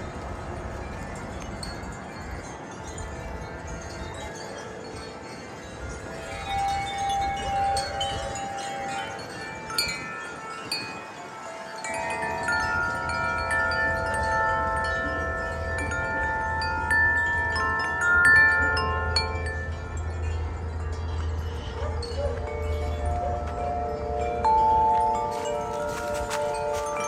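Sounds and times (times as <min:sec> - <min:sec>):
wind chimes ringing: 0:00.0 - 0:27.0.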